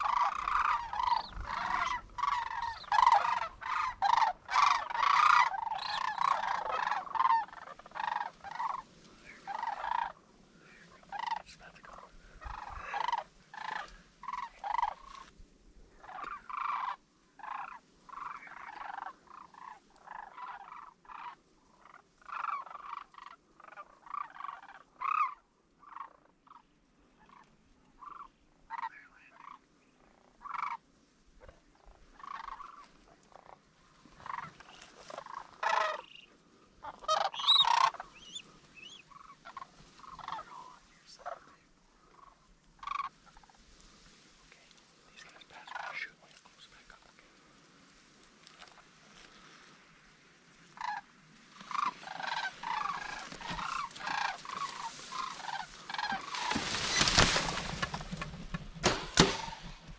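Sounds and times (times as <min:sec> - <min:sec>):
cranes rattling calls: 0:00.0 - 0:15.3, 0:16.0 - 0:29.6, 0:30.4 - 0:30.8, 0:31.4 - 0:44.2, 0:45.1 - 0:47.0, 0:50.6 - 0:59.9.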